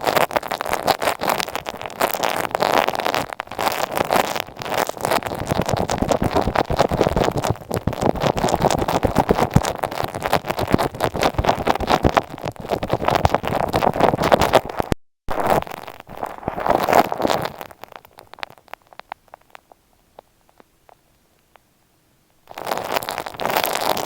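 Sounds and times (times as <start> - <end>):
scratching on earphone microphone: 0.0 - 21.6, 22.4 - 24.0.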